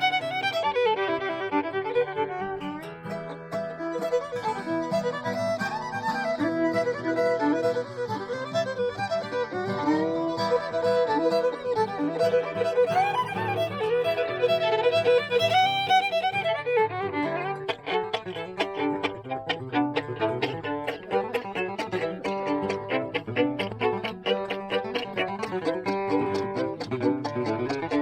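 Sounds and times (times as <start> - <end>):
fiddle playing a bluegrass tune: 0.0 - 28.0.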